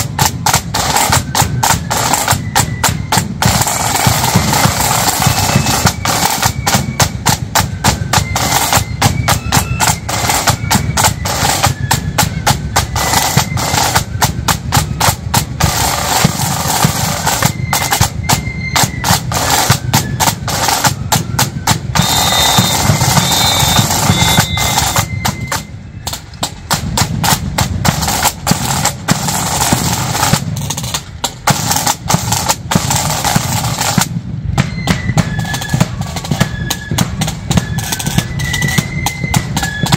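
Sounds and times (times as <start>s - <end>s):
marching band snare and bass drums: 0.0s - 39.9s.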